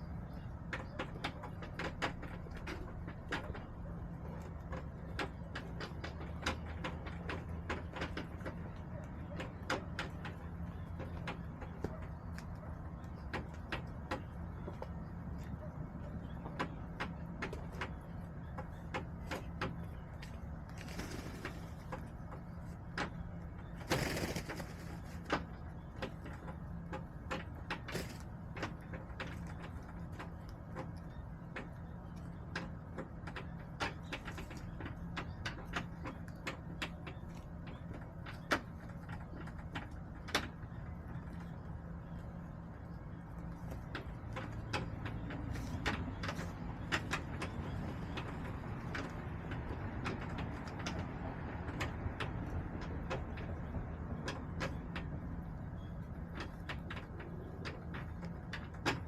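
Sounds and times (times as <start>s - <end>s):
hens pecking and scratching: 0.0s - 59.0s.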